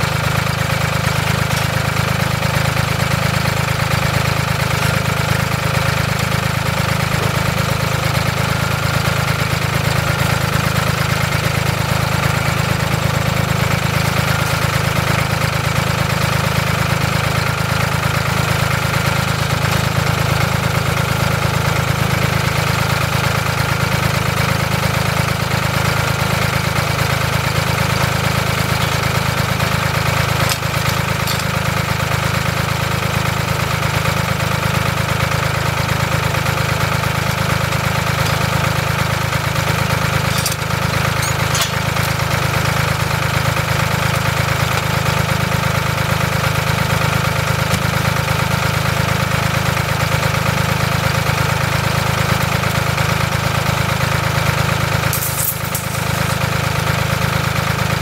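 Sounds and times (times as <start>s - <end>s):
tractor engine idling: 0.0s - 58.0s.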